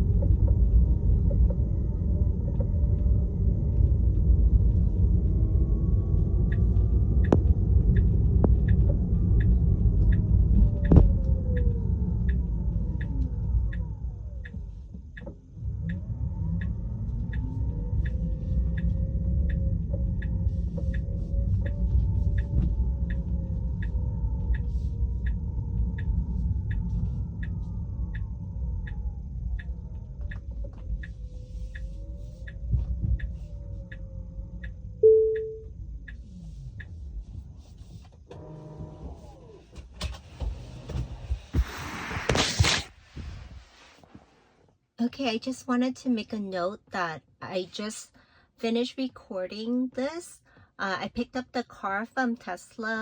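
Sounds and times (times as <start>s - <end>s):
road rumble inside car: 0.0s - 53.0s.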